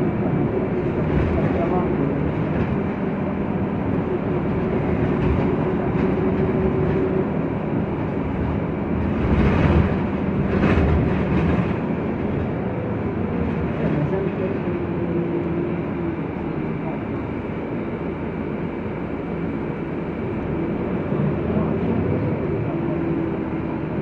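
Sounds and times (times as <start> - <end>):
bus engine droning: 0.0 - 24.0
road and tyre noise: 0.0 - 24.0.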